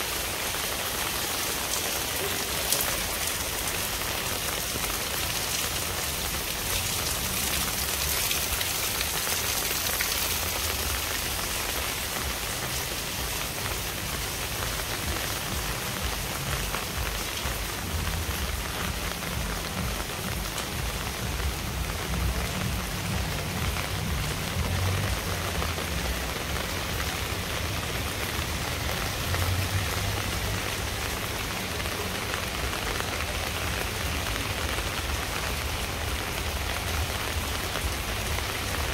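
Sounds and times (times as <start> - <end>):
rain splashing on hard surfaces: 0.0 - 38.9.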